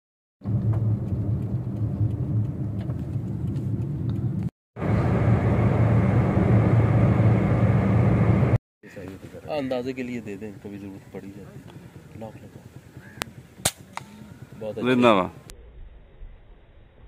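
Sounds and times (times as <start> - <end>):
car engine and tyre rumble: 0.4 - 15.5.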